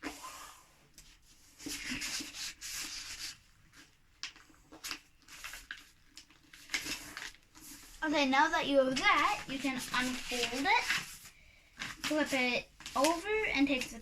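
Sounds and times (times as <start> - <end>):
paper fold scraping: 1.1 - 14.0
paper rustling and sliding: 1.1 - 14.0.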